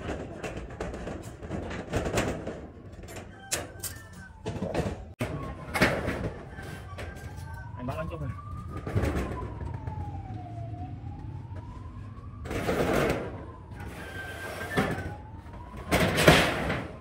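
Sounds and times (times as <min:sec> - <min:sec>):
siren wailing: 0:03.0 - 0:17.0.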